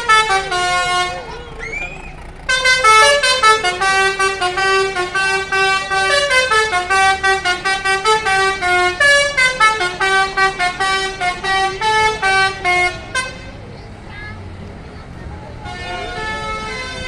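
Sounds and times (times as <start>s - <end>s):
multi-tone bus horn tune: 0.0s - 13.7s, 15.5s - 17.0s.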